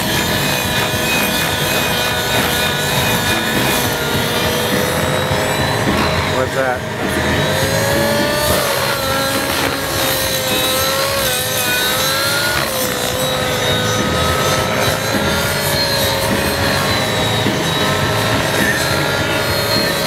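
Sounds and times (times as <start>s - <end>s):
rc helicopter engine whine: 0.0s - 20.0s.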